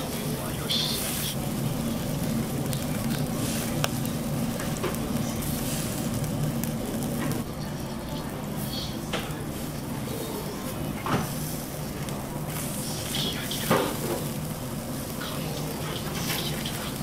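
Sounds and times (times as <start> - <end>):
fat crackling and popping: 0.0 - 17.0
meat sizzling on a grill: 0.0 - 17.0.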